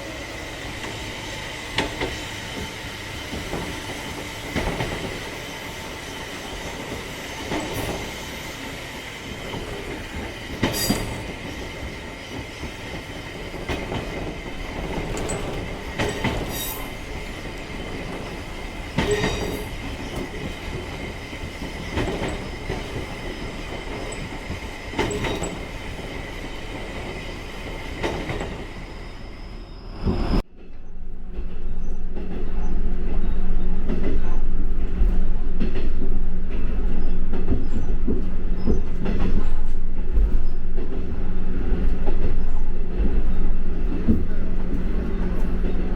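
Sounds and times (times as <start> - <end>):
train rumble: 0.0 - 45.9
wheels clacking over rail joints: 1.6 - 28.9, 30.1 - 45.9.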